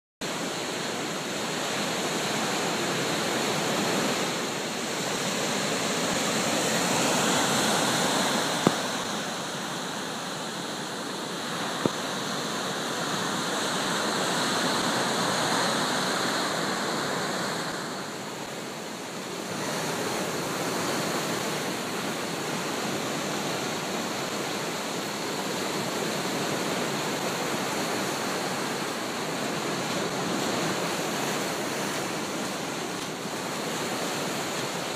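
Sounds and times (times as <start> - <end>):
surf breaking on beach: 0.2 - 34.9.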